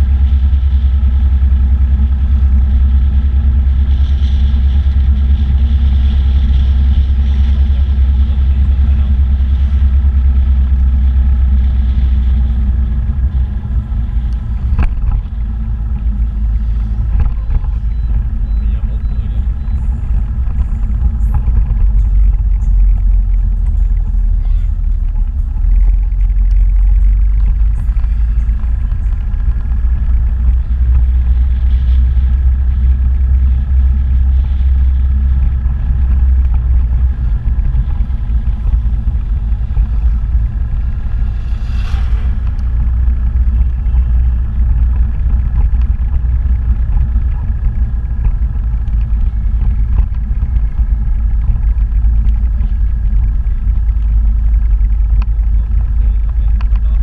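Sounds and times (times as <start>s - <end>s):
motorbike engine rumble: 0.0s - 57.0s
wind buffeting microphone: 0.0s - 57.0s.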